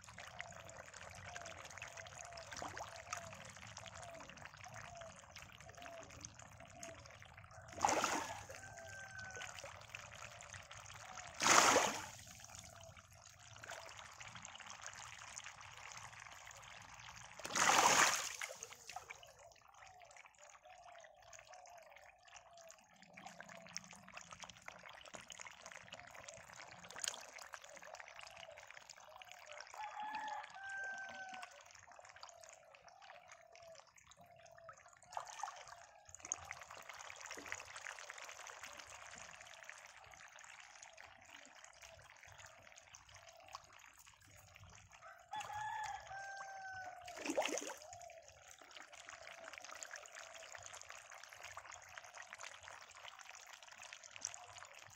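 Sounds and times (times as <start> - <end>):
trickling water: 0.0 - 54.9.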